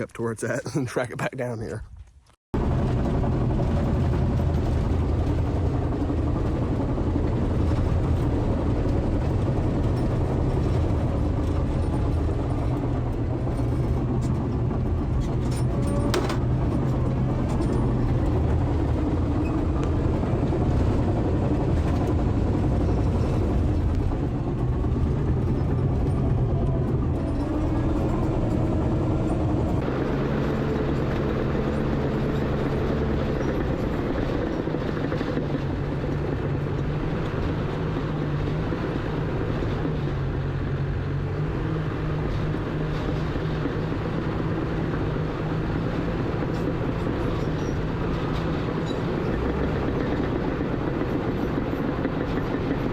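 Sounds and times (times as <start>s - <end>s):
bulldozer diesel engine running: 2.6s - 52.9s.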